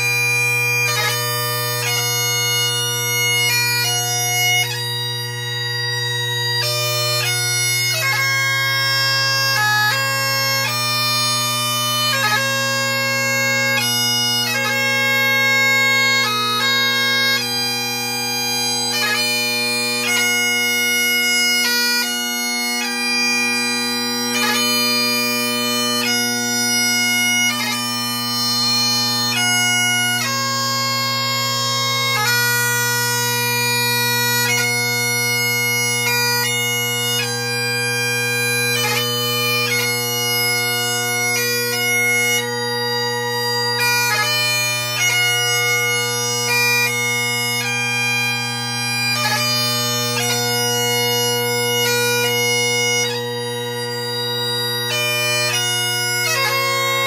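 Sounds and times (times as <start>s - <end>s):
bagpipe chanter melody: 0.0s - 57.0s
bagpipe drones: 0.0s - 57.0s.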